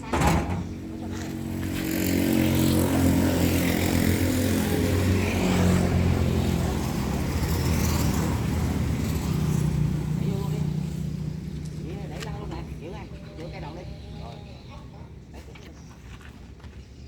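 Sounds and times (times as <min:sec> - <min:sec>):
engine running: 0:00.0 - 0:16.9.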